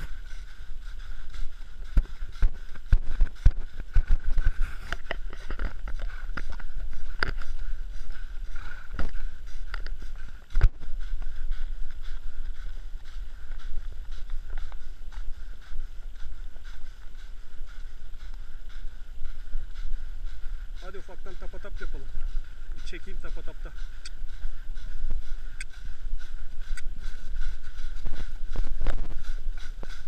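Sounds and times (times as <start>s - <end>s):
horse hooves on dirt trail: 0.0s - 30.0s
steady rushing noise: 0.0s - 30.0s.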